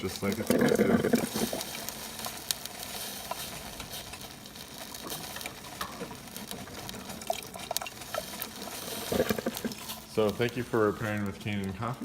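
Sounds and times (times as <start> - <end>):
coffee maker hissing and gurgling: 0.0 - 12.0
water dripping and spattering: 0.0 - 12.0.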